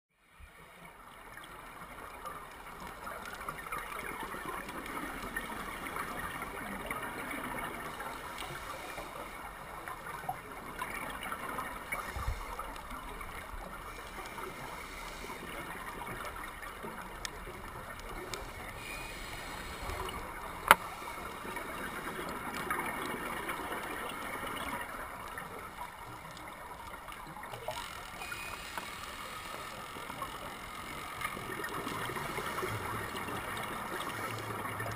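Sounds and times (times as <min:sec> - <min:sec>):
underwater hiss and gurgle: 0:00.2 - 0:34.9.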